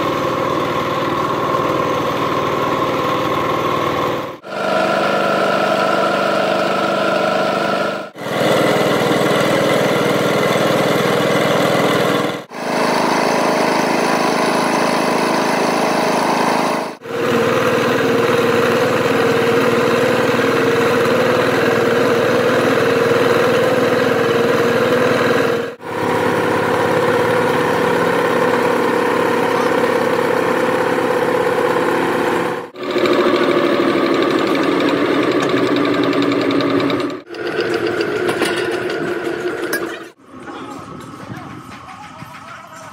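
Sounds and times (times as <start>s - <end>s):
workshop machinery humming: 0.0s - 42.9s.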